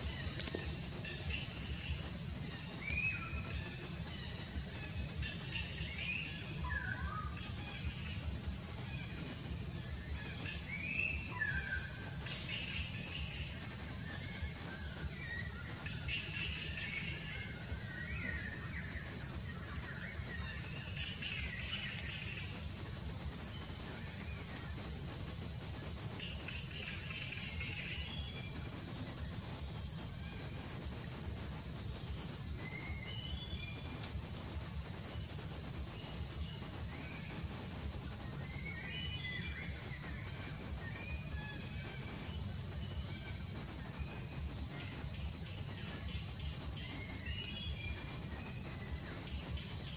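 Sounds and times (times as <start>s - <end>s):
high-pitched insect drone: 0.0s - 49.9s.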